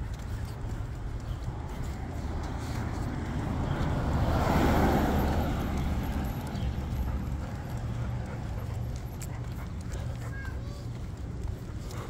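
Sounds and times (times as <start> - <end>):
car passing: 0.0 - 9.9.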